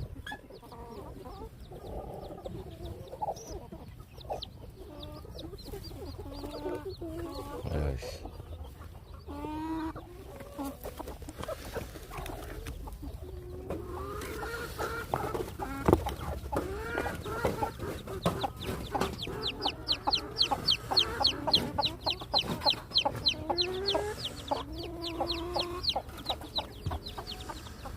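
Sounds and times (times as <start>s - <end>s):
chicks peeping: 0.0s - 27.9s
hen clucking: 0.0s - 27.9s.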